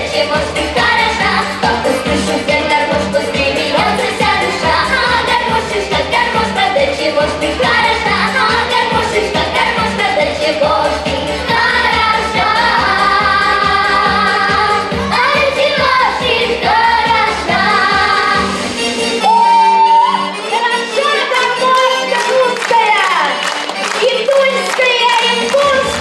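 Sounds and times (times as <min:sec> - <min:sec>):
person singing pop song: 0:00.0 - 0:26.0.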